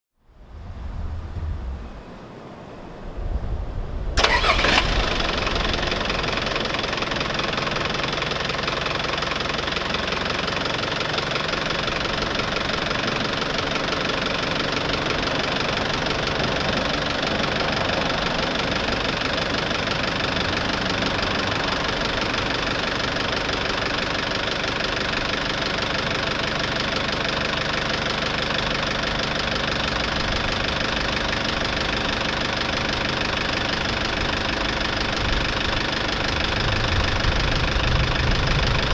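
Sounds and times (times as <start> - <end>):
diesel engine idling: 4.2 - 38.9.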